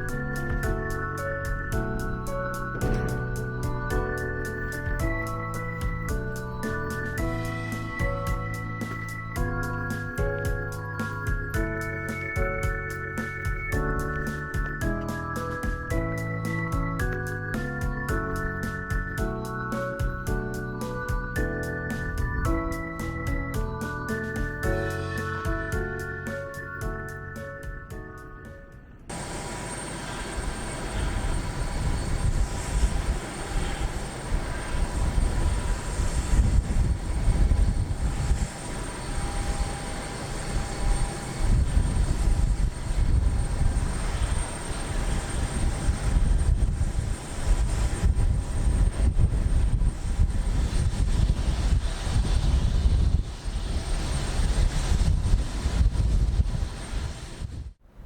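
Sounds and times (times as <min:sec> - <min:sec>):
faint steady whine: 0:00.0 - 0:26.8, 0:29.1 - 0:57.7
airplane engine rumble: 0:00.0 - 0:58.0.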